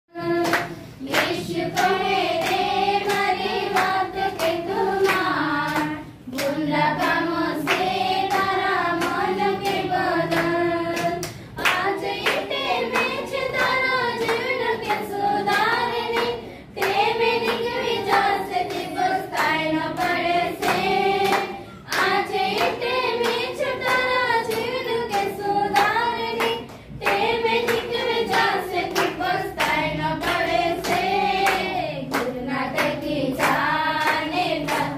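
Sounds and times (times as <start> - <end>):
women singing in unison: 0.1 - 34.9
hands clapping on a beat: 0.2 - 34.9.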